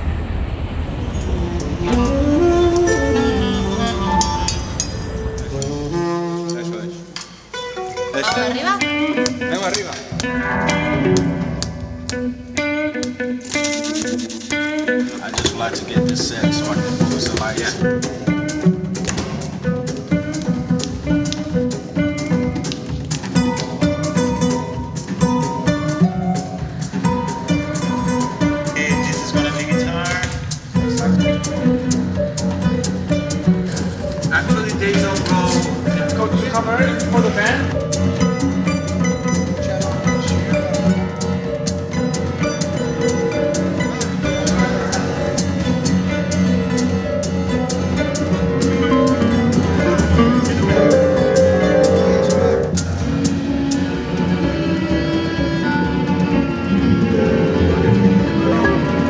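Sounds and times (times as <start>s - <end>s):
instrumental ensemble music: 1.2s - 59.0s
drum kit beat: 1.5s - 13.3s, 14.5s - 59.0s.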